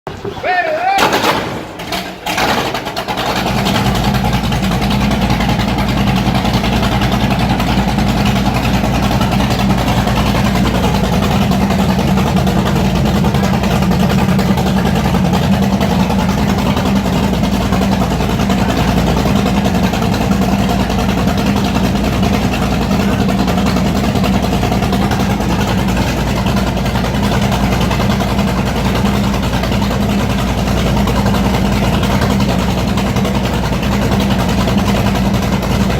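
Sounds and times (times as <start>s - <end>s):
boat engine starting and idling: 0.1s - 35.9s.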